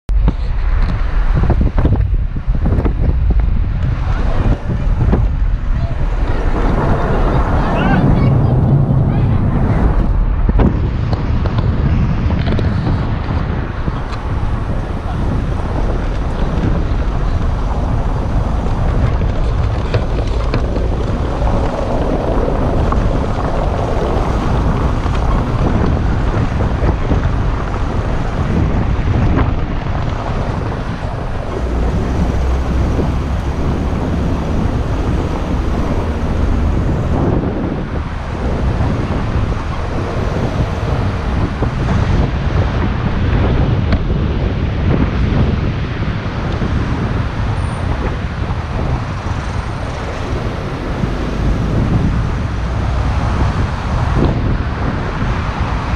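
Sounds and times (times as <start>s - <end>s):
car tyre and engine rumble: 0.1s - 55.9s
wind buffeting microphone: 0.1s - 55.9s.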